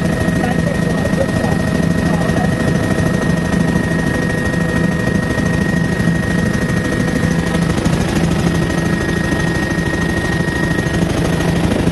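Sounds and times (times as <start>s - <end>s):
helicopter engine and rotor: 0.0s - 11.9s.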